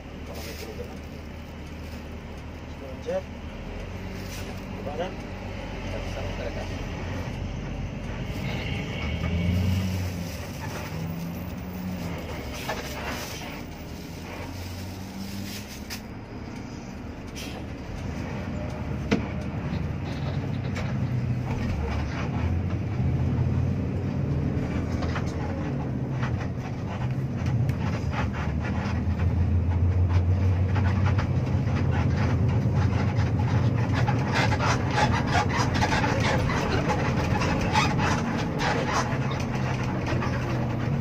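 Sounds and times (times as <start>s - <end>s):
diesel coach engine: 0.0s - 41.0s.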